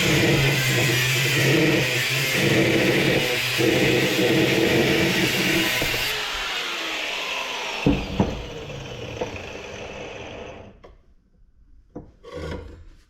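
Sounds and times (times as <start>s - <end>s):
power grinder spinning down: 0.0s - 10.8s.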